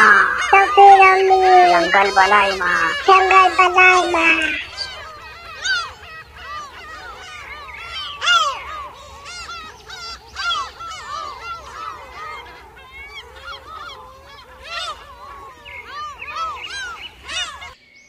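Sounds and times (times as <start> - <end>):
chorus of animal calls: 0.0 - 17.8.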